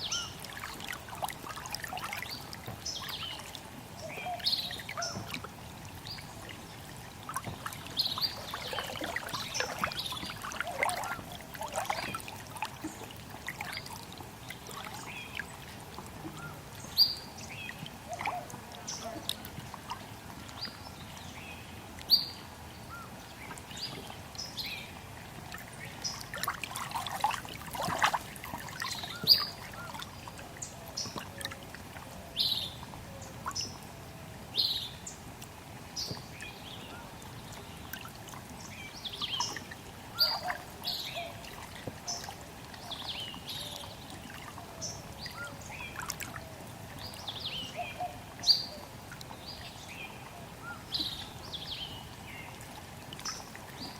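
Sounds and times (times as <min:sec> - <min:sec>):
songbirds chirping: 0:00.0 - 0:53.9
water trickling: 0:00.0 - 0:53.9.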